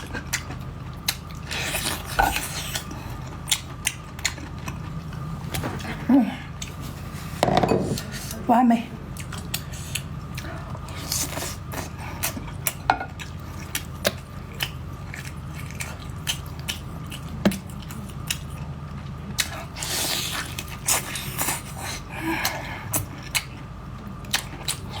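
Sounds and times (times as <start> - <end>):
chewing with wet mouth clicks: 0.0 - 5.9, 9.1 - 21.8, 22.4 - 25.0
steady low hum: 0.0 - 25.0.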